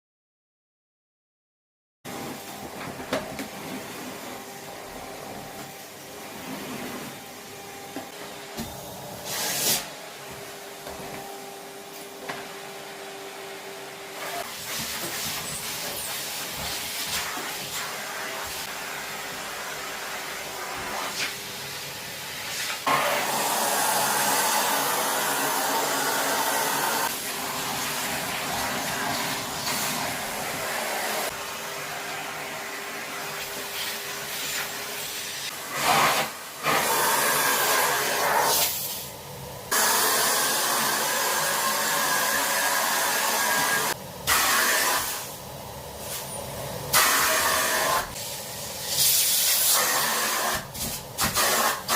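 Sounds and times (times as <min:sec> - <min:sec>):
vacuum cleaner running: 0:02.1 - 0:51.9.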